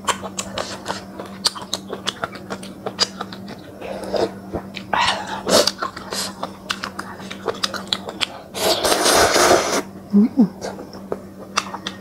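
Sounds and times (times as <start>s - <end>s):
person chewing and smacking: 0.0s - 8.4s, 10.6s - 12.0s
steady low hum: 0.0s - 12.0s.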